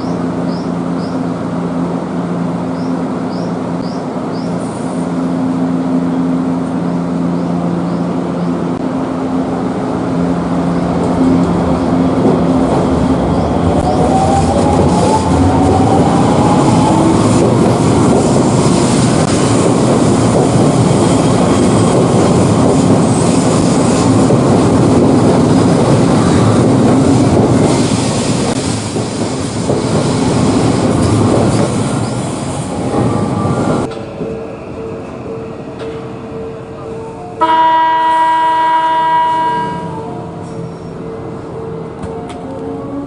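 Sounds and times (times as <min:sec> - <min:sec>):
electric train on rails: 0:00.0 - 0:43.0.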